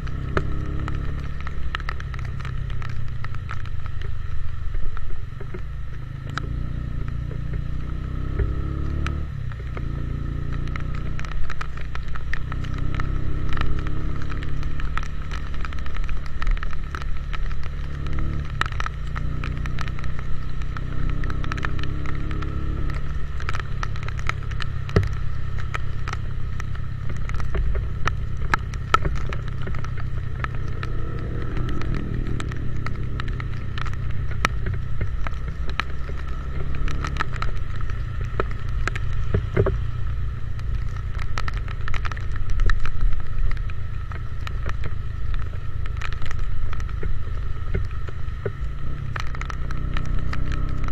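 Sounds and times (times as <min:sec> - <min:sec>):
motorcycle engine running: 0:00.0 - 0:50.9
raindrops striking microphone: 0:00.0 - 0:50.9.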